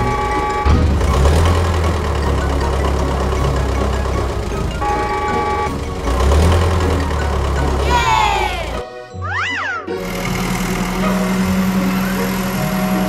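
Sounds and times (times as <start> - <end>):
cartoon bulldozer engine rumble: 0.0 - 13.0.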